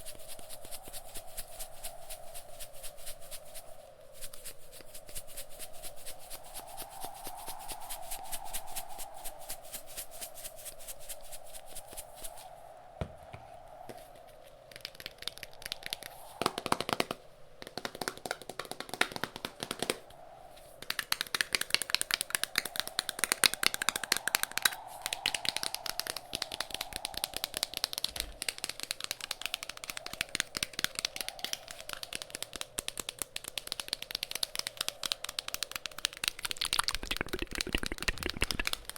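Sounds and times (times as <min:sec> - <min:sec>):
howling wind: 0:00.0 - 0:38.9.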